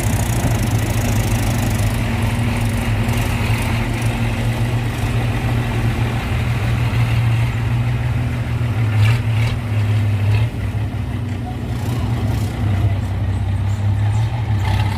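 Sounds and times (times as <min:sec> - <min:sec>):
heavy diesel engine humming: 0:00.0 - 0:14.9.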